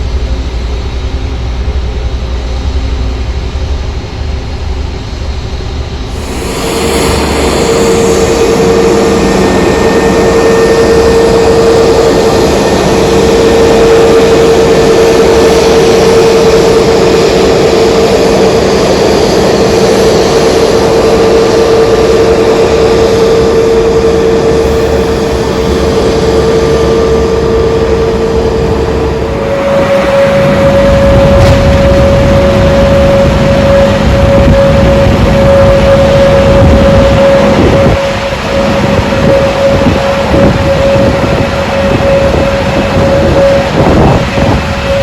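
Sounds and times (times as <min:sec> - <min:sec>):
jet engines rushing and whining: 0:00.0 - 0:45.0.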